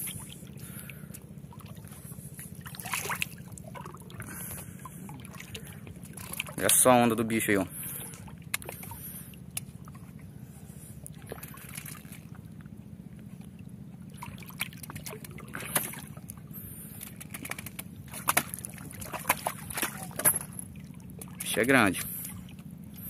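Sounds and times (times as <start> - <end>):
low steady hum: 0.0 - 23.0
water sloshing and splashing: 0.0 - 23.0.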